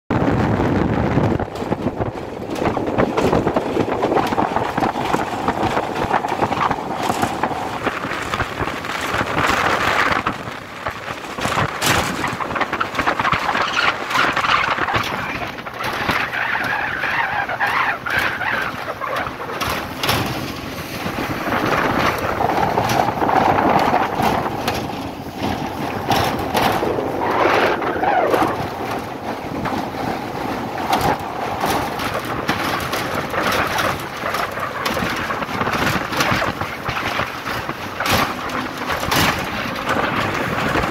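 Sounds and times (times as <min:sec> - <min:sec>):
moving vehicle rushing noise: 0:00.2 - 0:40.9.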